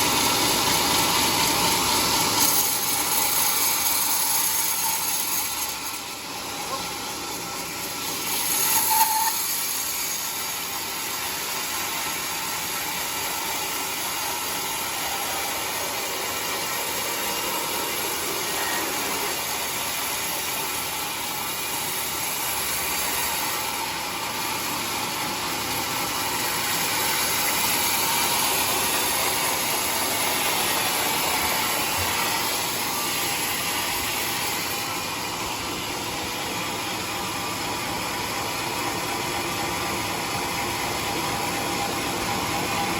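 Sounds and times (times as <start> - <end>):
sawmill cutting log: 0.0 - 42.9.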